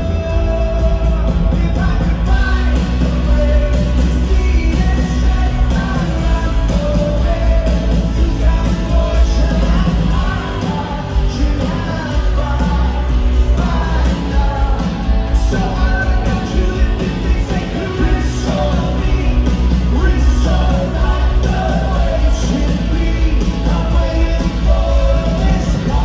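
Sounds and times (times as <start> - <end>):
booming bass: 0.0 - 26.0
live rock band with singer: 0.0 - 26.0.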